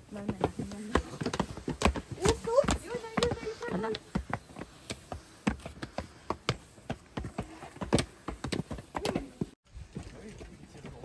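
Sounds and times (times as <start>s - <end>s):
sharp footsteps: 0.0s - 11.0s.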